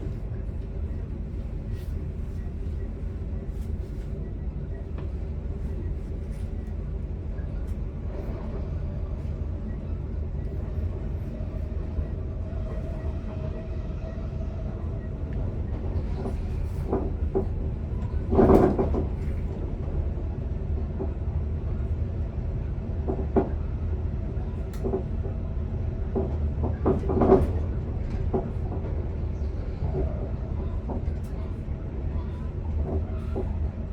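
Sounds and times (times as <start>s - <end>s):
electric train rumbling on track: 0.0s - 33.9s.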